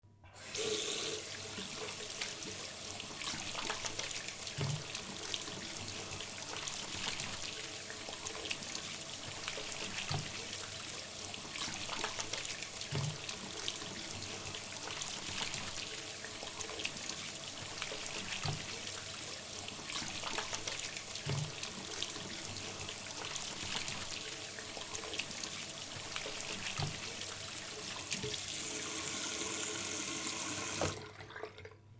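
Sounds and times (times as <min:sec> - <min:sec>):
water running into a sink: 0:00.4 - 0:31.8.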